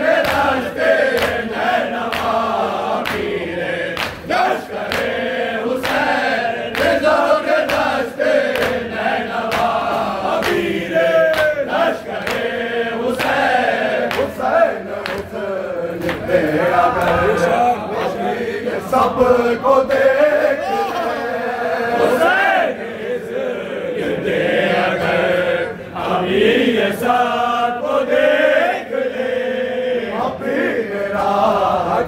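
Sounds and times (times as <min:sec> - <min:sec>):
men chanting a lament: 0:00.0 - 0:32.0.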